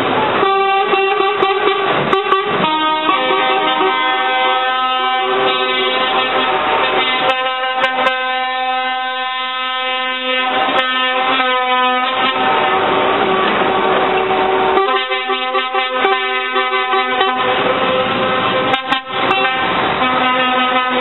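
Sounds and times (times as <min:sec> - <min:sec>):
passing truck engine and road noise: 0:00.0 - 0:21.0
truck air horns: 0:00.3 - 0:21.0.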